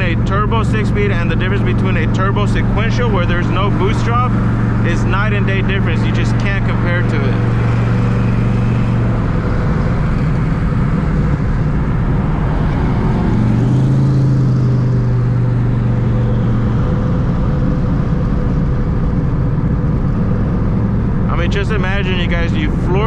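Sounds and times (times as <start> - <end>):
car engine exhaust drone: 0.0 - 23.0.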